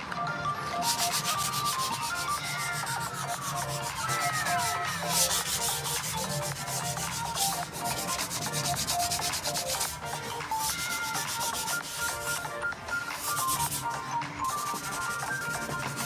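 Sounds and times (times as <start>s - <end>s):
background music: 0.0s - 16.0s
sanding scratchy rubbing: 0.8s - 16.0s.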